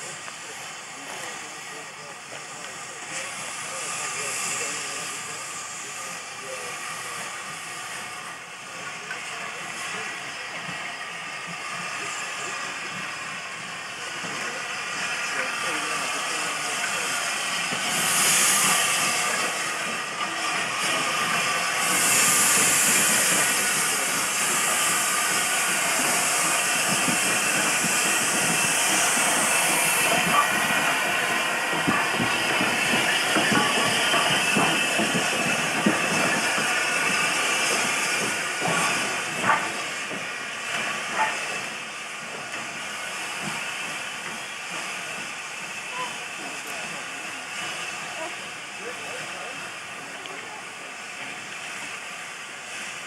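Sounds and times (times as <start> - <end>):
steam hissing: 0.0 - 53.0
steam locomotive moving slowly: 0.0 - 53.0.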